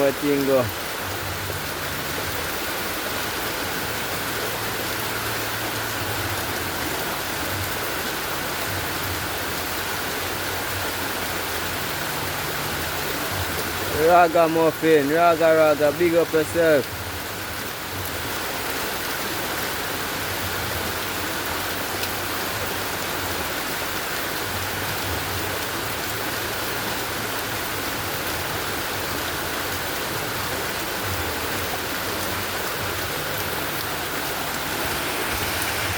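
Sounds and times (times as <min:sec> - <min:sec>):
rain falling steadily: 0:00.0 - 0:35.9.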